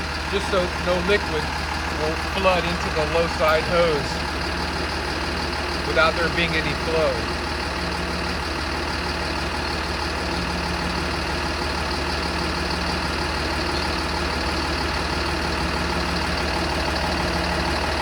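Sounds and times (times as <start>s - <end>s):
bus engine idling: 0.0s - 18.0s.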